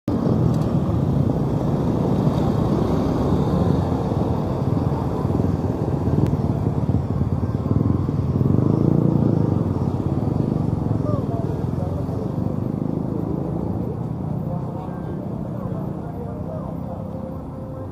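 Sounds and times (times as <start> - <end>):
motorcycle engine rumbling: 0.1 - 17.9.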